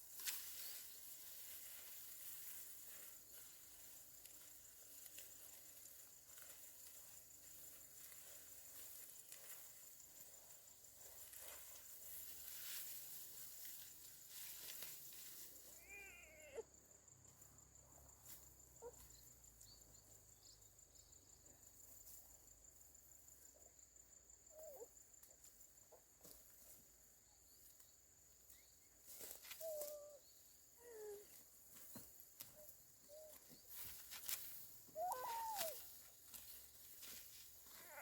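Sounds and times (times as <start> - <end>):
high insect trill: 0.0 - 38.0.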